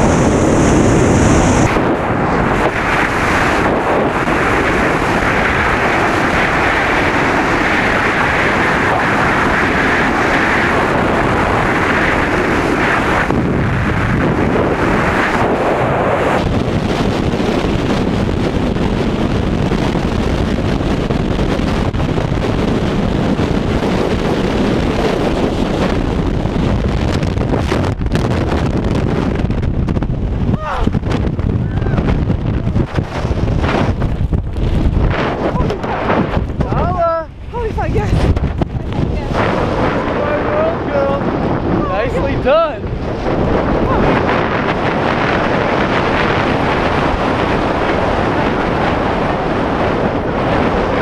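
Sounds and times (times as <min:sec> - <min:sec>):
wind roaring on microphone: 0:00.0 - 0:51.0.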